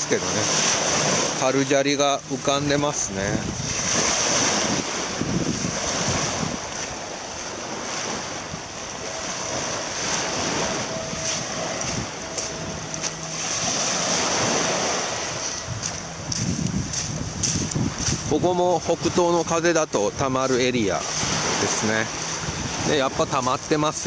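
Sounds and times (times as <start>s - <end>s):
small waves breaking on sand: 0.0s - 24.0s.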